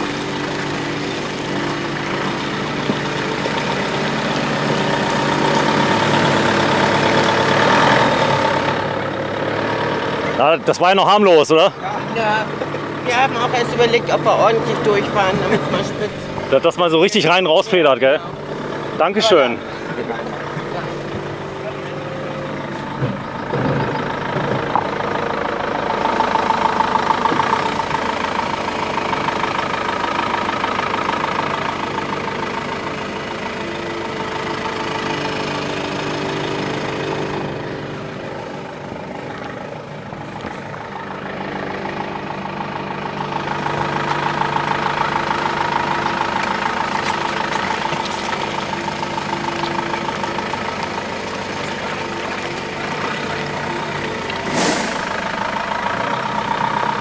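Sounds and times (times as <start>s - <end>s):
off-road vehicle engine: 0.0s - 57.0s.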